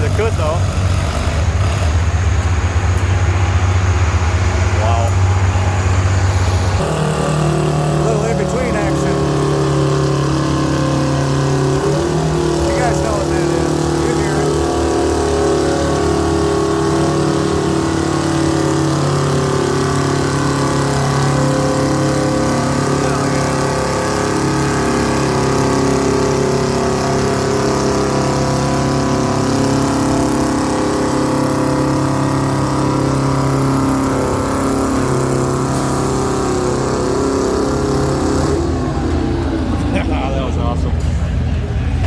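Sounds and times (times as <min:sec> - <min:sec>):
tractor engine running steadily: 0:00.0 - 0:42.0.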